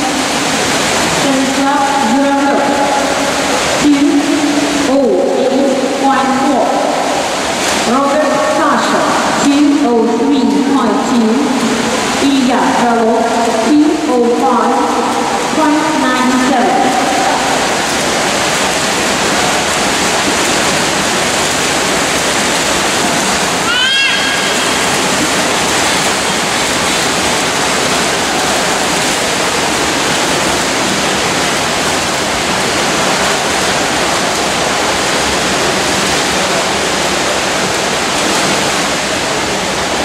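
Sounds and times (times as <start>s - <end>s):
swimmers splashing: 0.0s - 40.0s.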